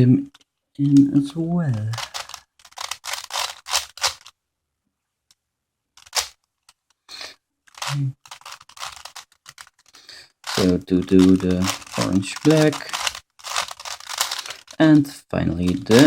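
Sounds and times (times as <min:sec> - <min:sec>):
puzzle cube clicking as twisted: 0:00.3 - 0:04.4, 0:06.0 - 0:16.0.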